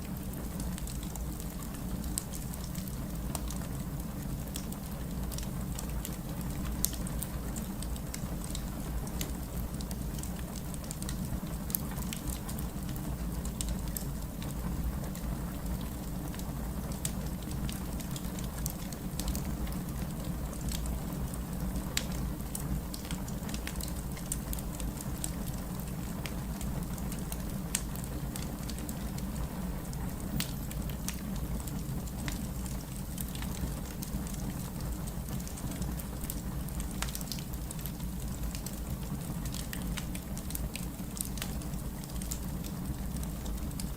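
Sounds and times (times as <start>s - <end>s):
wood crackling and popping: 0.0s - 3.8s, 4.4s - 43.9s.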